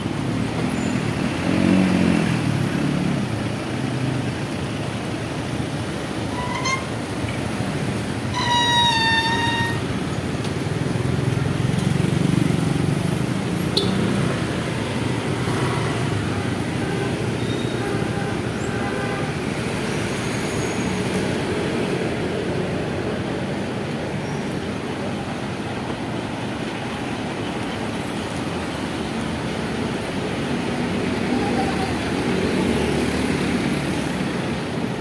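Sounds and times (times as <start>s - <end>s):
bus engines running: 0.0s - 35.0s
road noise: 0.0s - 35.0s.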